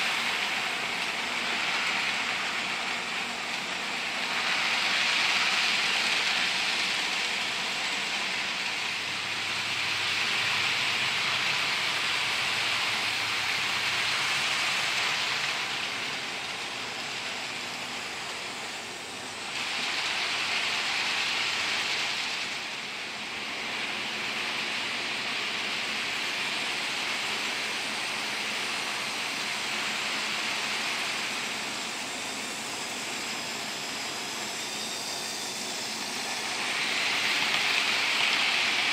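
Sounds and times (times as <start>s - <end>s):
model locomotive motor: 0.0s - 38.9s
model train wheels clattering: 0.0s - 38.9s.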